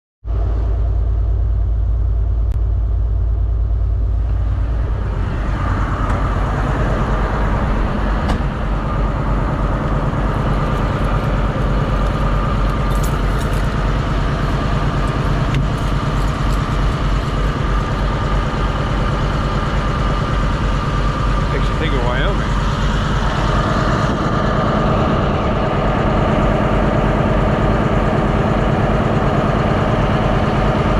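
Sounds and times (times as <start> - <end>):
diesel truck engine droning: 0.2 - 30.9
road noise: 0.2 - 30.9.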